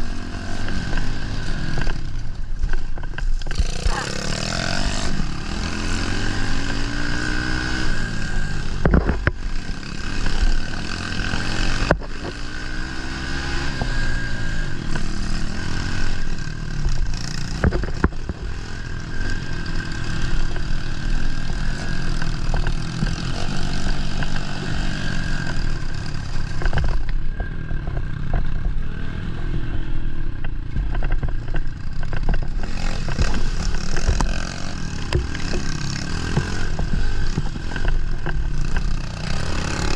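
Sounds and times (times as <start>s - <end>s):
bike knocking and rattling: 0.0s - 39.9s
motorbike engine revving: 0.0s - 39.9s.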